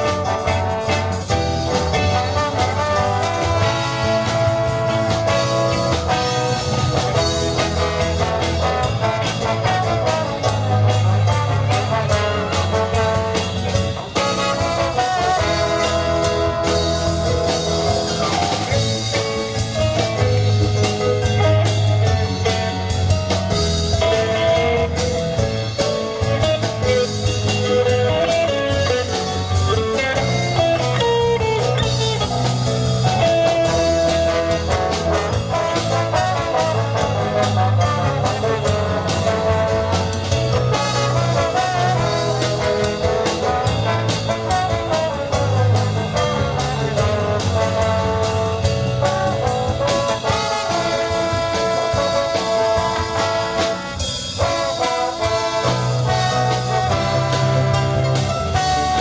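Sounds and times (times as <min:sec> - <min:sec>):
drum kit: 0:00.0 - 0:59.0
guitar: 0:00.0 - 0:59.0
horn section playing melody: 0:00.0 - 0:59.0
keyboard: 0:00.0 - 0:59.0.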